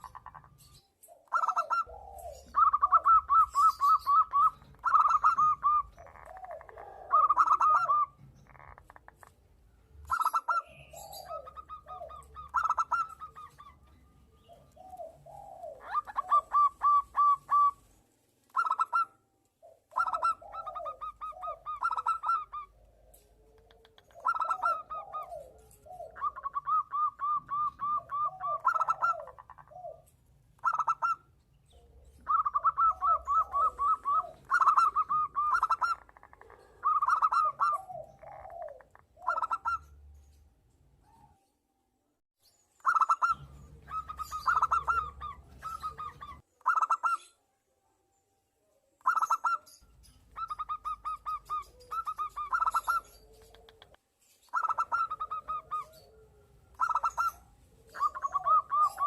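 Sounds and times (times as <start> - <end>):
doves cooing: 0.0 - 9.4, 10.0 - 17.9, 18.5 - 40.0, 42.8 - 47.2, 50.3 - 59.0.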